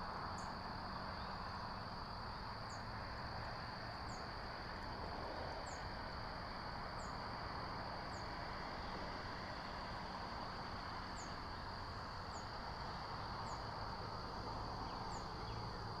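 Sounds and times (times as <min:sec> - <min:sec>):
high insect trill: 0:00.0 - 0:16.0
steady rushing hiss: 0:00.0 - 0:16.0.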